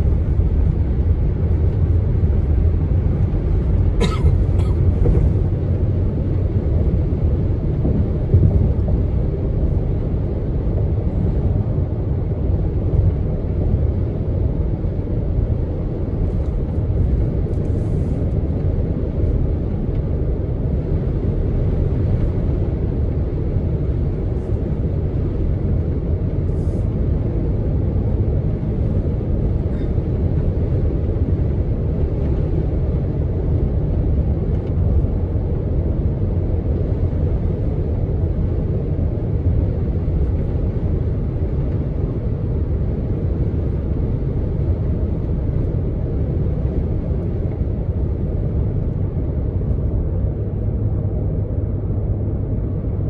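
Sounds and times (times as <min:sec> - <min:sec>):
car road noise at speed: 0:00.0 - 0:53.0.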